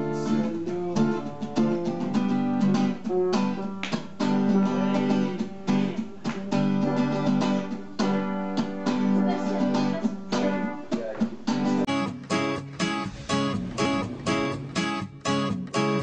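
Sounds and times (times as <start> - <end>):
acoustic guitar strumming chords: 0.0 - 16.0
sharply picked guitar notes: 0.0 - 16.0.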